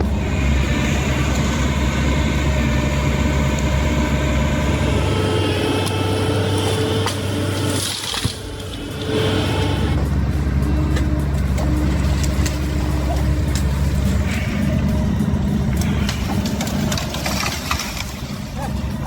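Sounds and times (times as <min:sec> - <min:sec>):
heavy machinery engine: 0:00.0 - 0:19.0.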